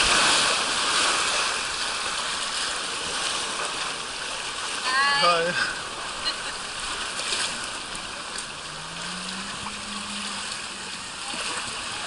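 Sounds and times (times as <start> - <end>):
small splashes: 0.0 - 12.0
water rushing down a slide: 0.0 - 12.0.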